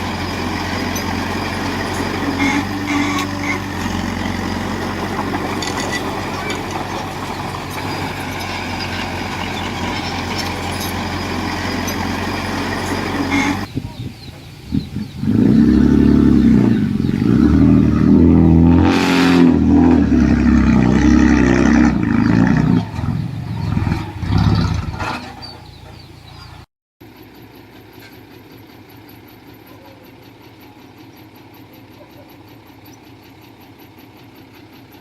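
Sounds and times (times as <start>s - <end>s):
diesel engine revving under load: 0.0s - 13.8s, 14.4s - 35.0s
engine running steadily: 0.0s - 35.0s.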